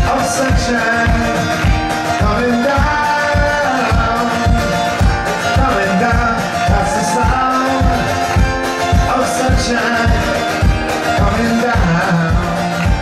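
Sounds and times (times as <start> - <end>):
acoustic guitars strumming: 0.0 - 13.0
low beat thumps: 0.0 - 13.0.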